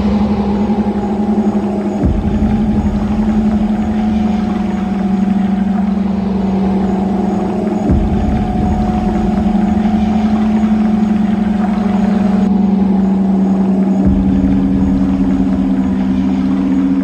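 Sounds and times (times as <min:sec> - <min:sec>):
low electronic drone: 0:00.0 - 0:17.0.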